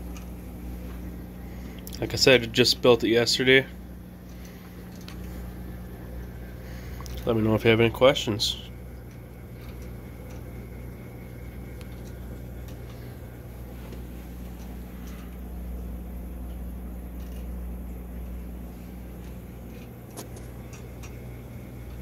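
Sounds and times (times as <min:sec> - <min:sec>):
gear motor humming: 0:00.0 - 0:22.0.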